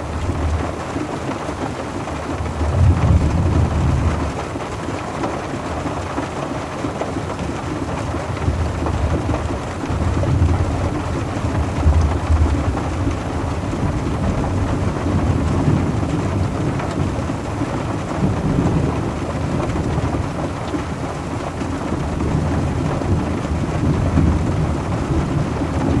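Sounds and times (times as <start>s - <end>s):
rain falling on a car: 0.0s - 26.0s.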